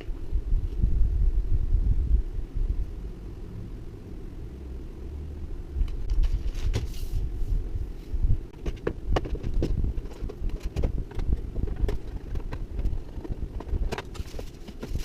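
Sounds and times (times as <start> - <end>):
microphone handling rumble: 0.0 - 3.0, 5.7 - 15.0.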